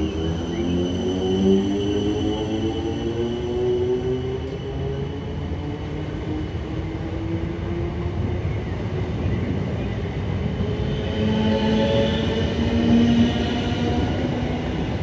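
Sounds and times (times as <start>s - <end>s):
train rumbling through station: 0.0s - 15.0s.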